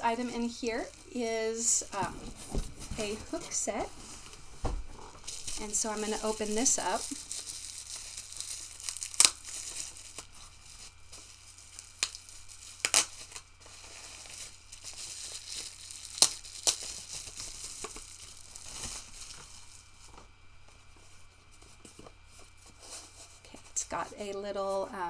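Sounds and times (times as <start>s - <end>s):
plastic packaging crinkling and tearing: 0.0s - 23.9s.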